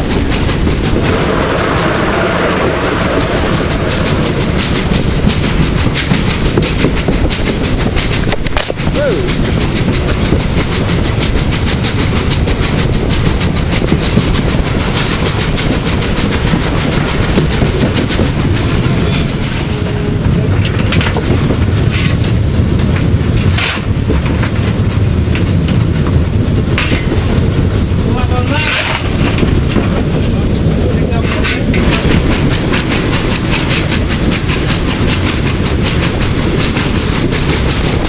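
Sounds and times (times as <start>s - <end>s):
steam locomotive running: 0.0s - 38.0s
wheels clattering over rail joints: 0.0s - 38.0s.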